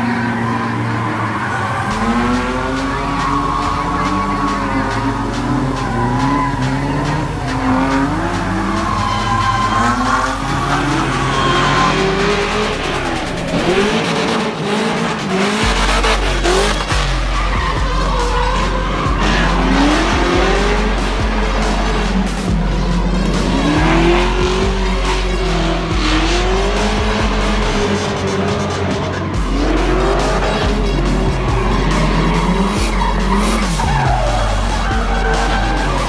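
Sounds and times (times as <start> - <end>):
background music: 0.0 - 36.0
car engines revving: 0.0 - 36.0
tyre squeal: 0.0 - 36.0.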